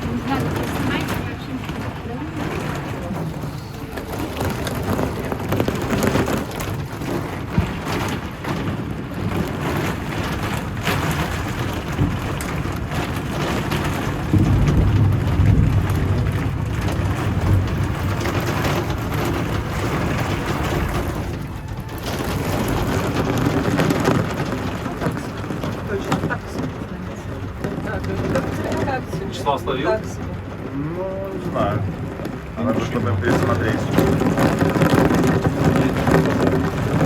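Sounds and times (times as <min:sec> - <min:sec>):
heavy rain on cabin: 0:00.0 - 0:37.0
low rumble of thunder: 0:00.0 - 0:37.0.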